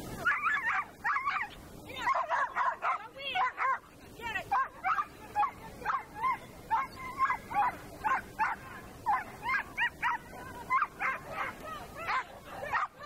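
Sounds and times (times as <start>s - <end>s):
dog yipping: 0.2s - 3.8s, 4.5s - 13.0s.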